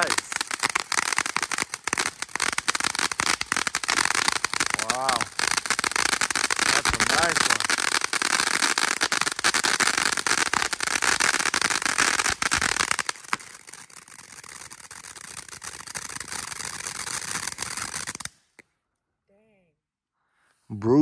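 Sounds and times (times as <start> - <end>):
firework fountain hissing and crackling: 0.0 - 18.5.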